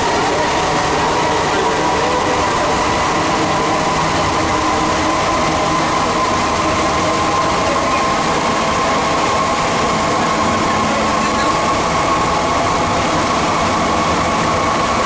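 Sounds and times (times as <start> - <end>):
high whine of train: 0.0 - 15.0
train rumbling underground: 0.0 - 15.0.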